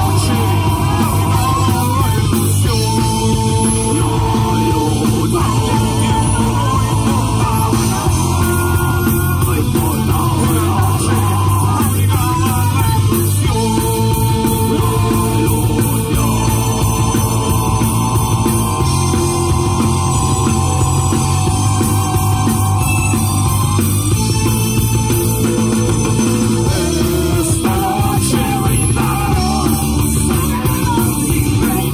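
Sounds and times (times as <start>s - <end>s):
person singing: 0.0s - 23.9s, 25.2s - 31.9s
rock band playing live: 0.0s - 31.9s.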